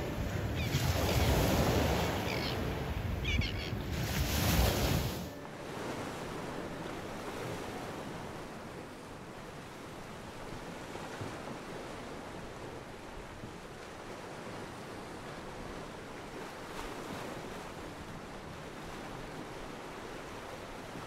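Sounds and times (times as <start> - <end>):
surf: 0.0 - 21.0
wind: 0.0 - 21.0.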